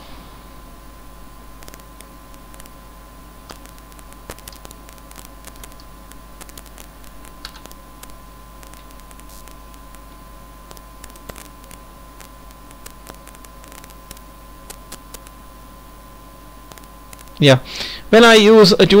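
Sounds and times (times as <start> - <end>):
electrical hum and hiss: 0.0 - 19.0
faint high whine: 0.0 - 19.0.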